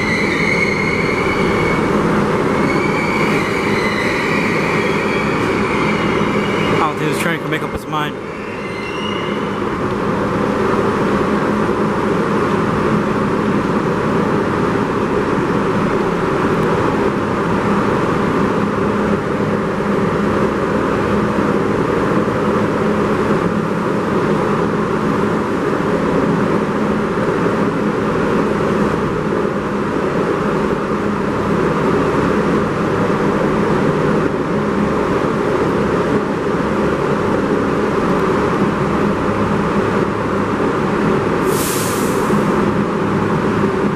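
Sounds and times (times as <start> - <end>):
subway train rumbling on track: 0.0 - 43.9.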